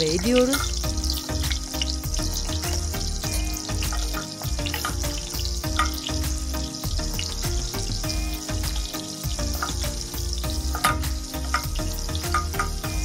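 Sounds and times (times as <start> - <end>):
tomato paste sizzling in a pot: 0.0 - 13.0.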